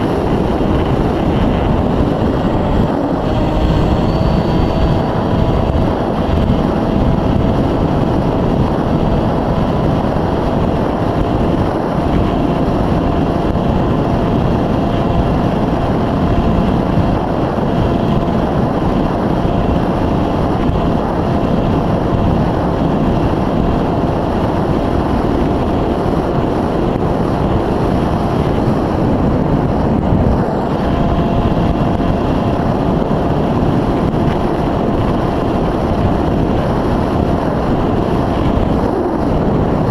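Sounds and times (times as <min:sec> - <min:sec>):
electric motor and propeller hum: 0:00.0 - 0:39.9
wind rushing over microphone: 0:00.0 - 0:39.9.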